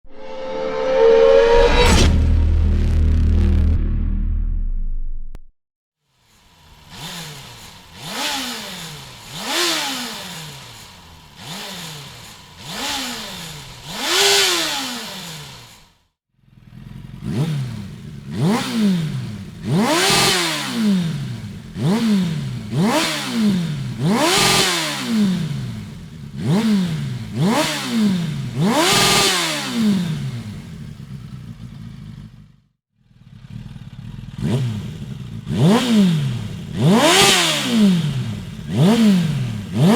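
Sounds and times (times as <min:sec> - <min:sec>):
motorcycle engine revving: 0:06.2 - 0:39.9.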